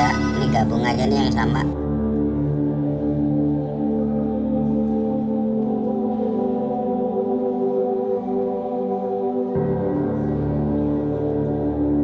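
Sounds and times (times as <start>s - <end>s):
calm ambient music: 0.0s - 12.0s.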